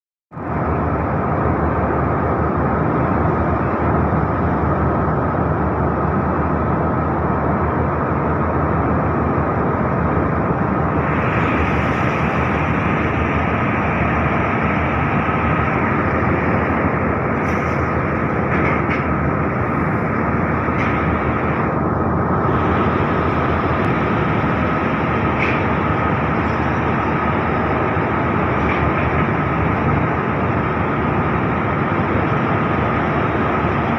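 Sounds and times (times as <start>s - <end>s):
faint steady whine: 0.4s - 33.9s
ship rumbling rush: 0.4s - 33.9s.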